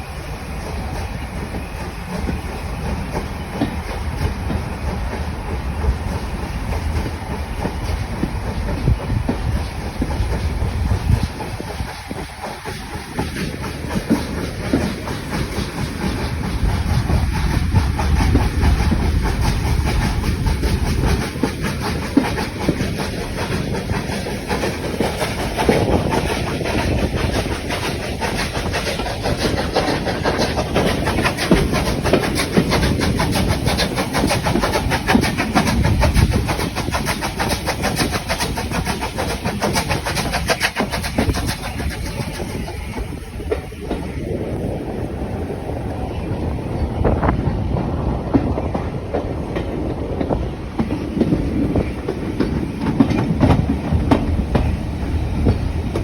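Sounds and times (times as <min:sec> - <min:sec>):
train wheels clattering: 0:00.0 - 0:56.0.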